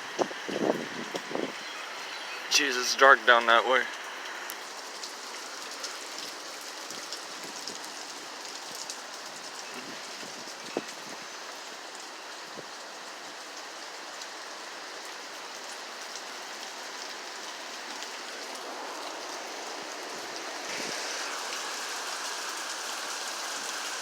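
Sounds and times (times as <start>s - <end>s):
steady rain hissing: 0.0s - 24.0s.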